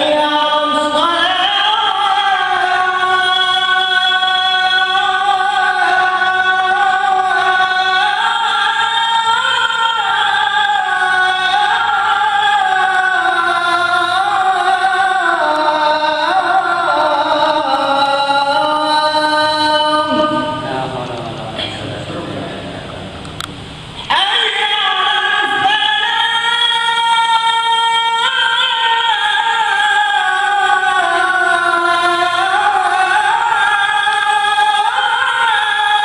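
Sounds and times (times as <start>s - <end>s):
man chanting call to prayer: 0.0s - 23.2s, 24.0s - 36.0s.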